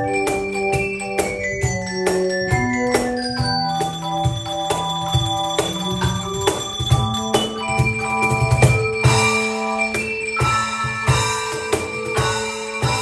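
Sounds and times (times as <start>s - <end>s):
bells and chimes melody: 0.0s - 13.0s
drum beat: 0.0s - 13.0s
held chords: 0.0s - 13.0s.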